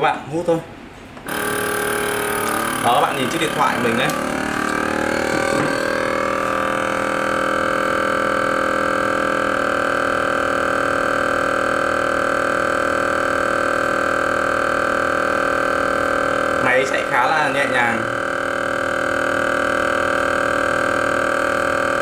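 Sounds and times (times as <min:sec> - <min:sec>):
vacuum pump humming: 0:00.9 - 0:22.0.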